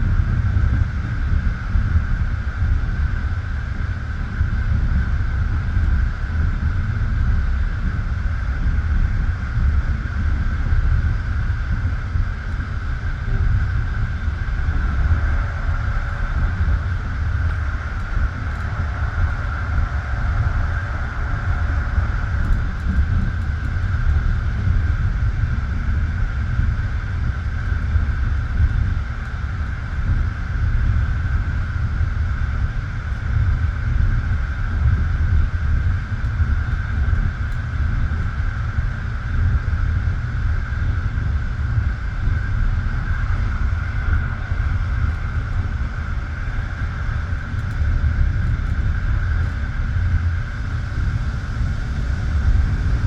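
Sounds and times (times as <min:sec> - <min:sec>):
train wheels rumbling on rails: 0:00.0 - 0:53.0
hiss-like noise: 0:09.5 - 0:53.0.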